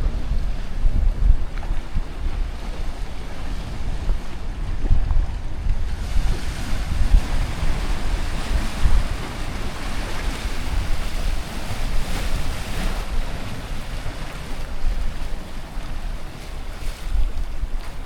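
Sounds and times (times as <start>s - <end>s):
waves washing against shore: 0.0s - 18.0s
wind rumbling on microphone: 0.0s - 18.0s.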